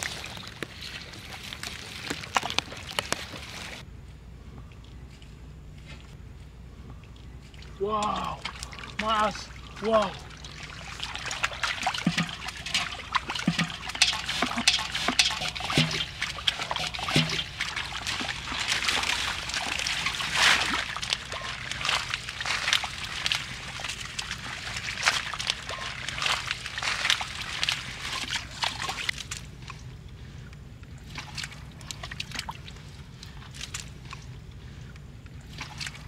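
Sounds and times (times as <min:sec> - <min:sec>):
splashing in muddy water: 0:00.0 - 0:03.8, 0:07.5 - 0:29.9, 0:30.9 - 0:36.0.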